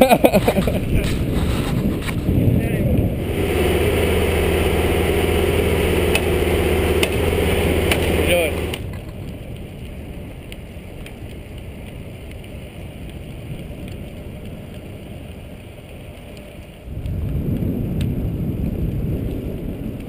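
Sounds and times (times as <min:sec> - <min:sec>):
wind noise on microphone: 0:00.0 - 0:20.0.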